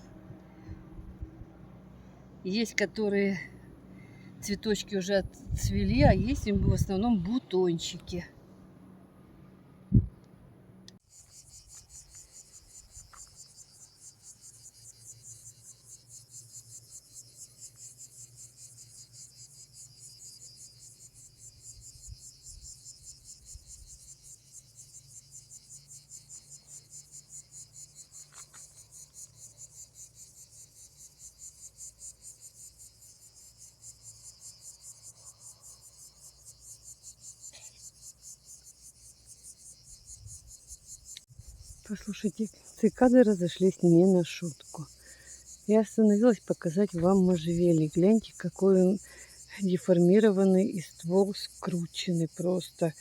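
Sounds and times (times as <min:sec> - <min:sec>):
cicadas buzzing: 0:00.0 - 0:09.2, 0:10.9 - 0:53.0.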